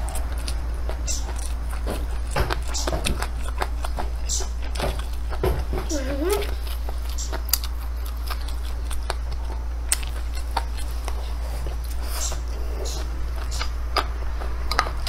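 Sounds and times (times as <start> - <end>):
eating clicks: 0.0 - 15.0
person chewing food: 0.0 - 15.0
steady low hum: 0.0 - 15.0.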